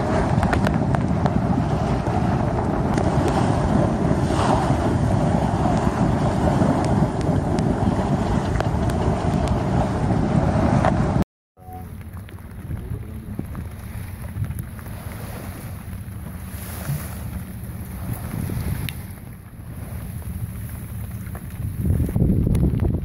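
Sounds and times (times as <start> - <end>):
wind buffeting microphone: 0.0 - 11.2, 11.8 - 23.0
water rushing along a boat hull: 0.0 - 23.0.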